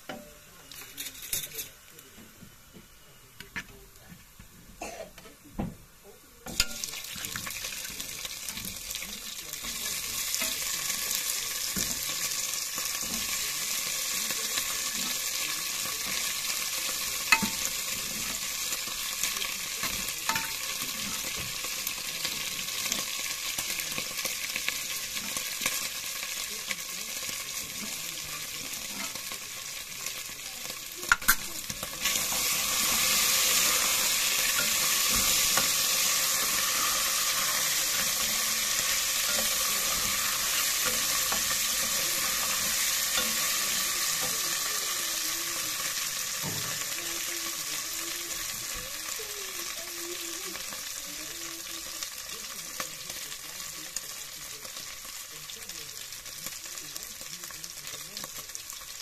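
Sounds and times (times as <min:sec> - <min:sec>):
meat sizzling in hot oil: 0:06.4 - 0:59.0.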